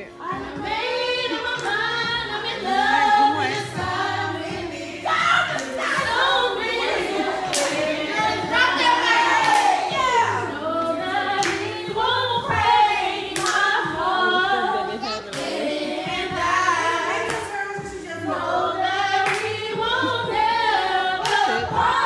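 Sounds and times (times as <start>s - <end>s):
karaoke music: 0.0s - 22.0s
voices singing along: 0.0s - 22.0s.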